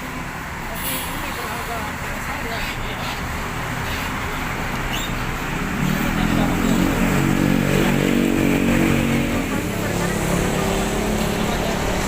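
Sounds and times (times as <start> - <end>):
bus engine drone: 0.0 - 12.0
traffic noise: 0.0 - 12.0.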